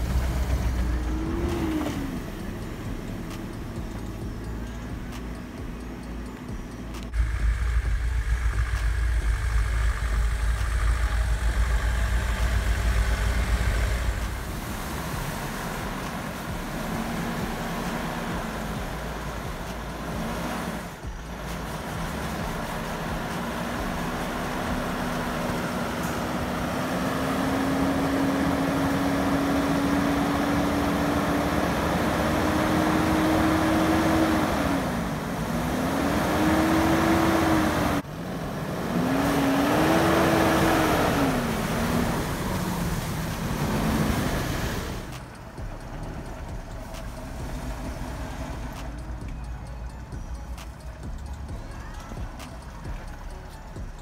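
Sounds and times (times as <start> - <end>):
off-road vehicle engine rumbling: 0.0 - 54.0.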